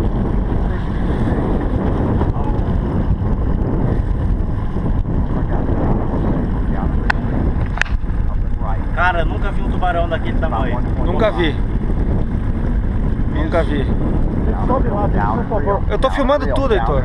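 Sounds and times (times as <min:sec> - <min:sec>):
loud wind rumble on microphone: 0:00.0 - 0:17.0.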